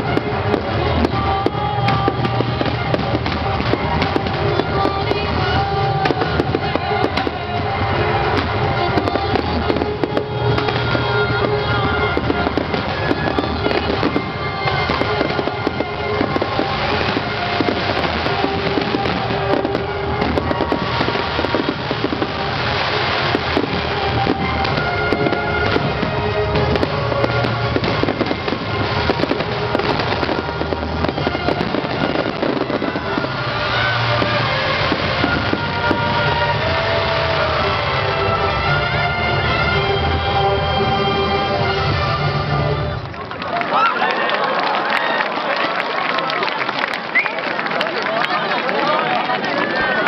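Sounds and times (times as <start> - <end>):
music with held tones: 0.0 - 43.1
fireworks bangs and crackles: 0.0 - 43.4.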